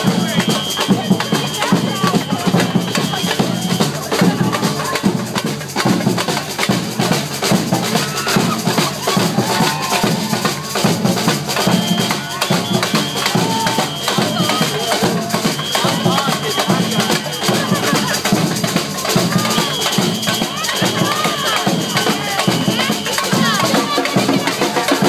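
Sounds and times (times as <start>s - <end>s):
crowd voices: 0.0s - 25.0s
percussion band drumming: 0.0s - 25.0s.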